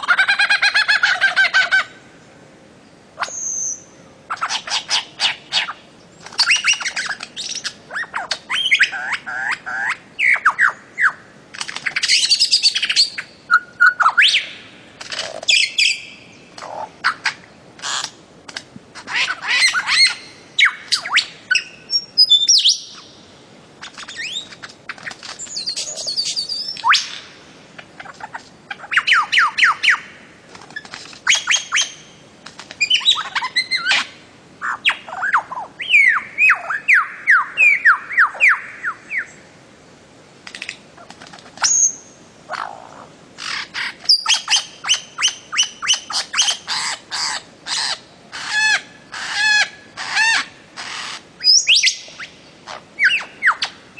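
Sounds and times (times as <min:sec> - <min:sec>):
bird chirping and squawking: 0:03.2 - 0:18.2, 0:19.0 - 0:23.1, 0:23.8 - 0:32.1, 0:32.8 - 0:39.4, 0:41.0 - 0:53.8.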